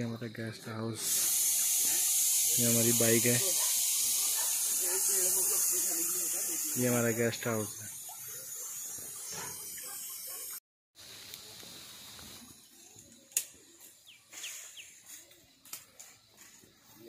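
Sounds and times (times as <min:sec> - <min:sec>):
quiet outdoor ambience: 0:00.0 - 0:17.0.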